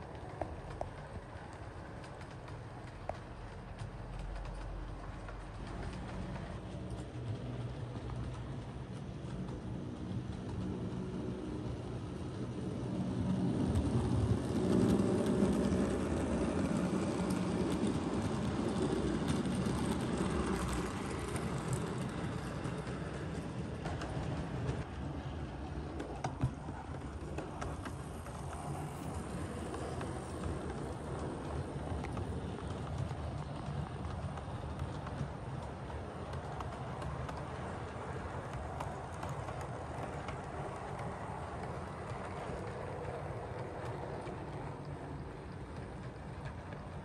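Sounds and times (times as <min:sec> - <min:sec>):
model trains rumbling on track: 0:00.0 - 0:47.0.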